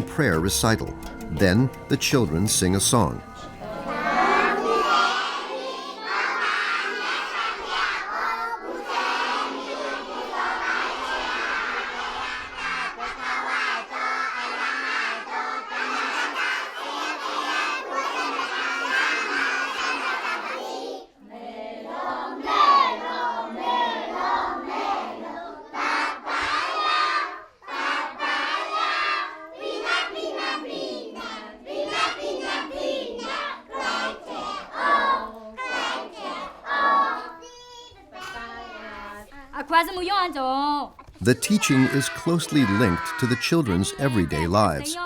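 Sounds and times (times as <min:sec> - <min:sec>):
children singing in unison: 0:03.3 - 0:37.5, 0:41.3 - 0:45.0.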